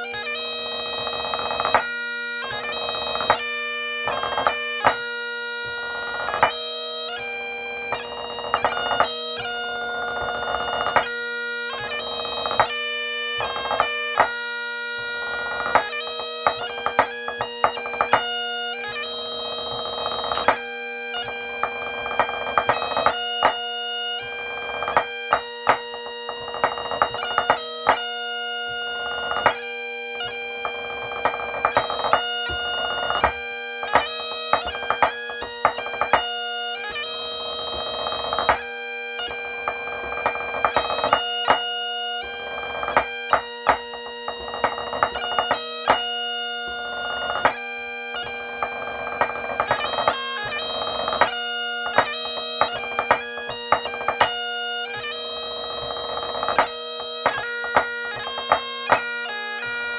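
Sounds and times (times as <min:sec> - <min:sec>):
bagpipe playing a march: 0:00.0 - 0:59.9.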